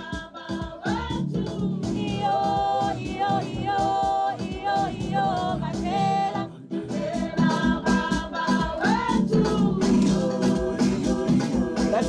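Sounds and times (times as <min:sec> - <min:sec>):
backing track with percussion: 0:00.0 - 0:12.0
woman singing: 0:00.0 - 0:12.0.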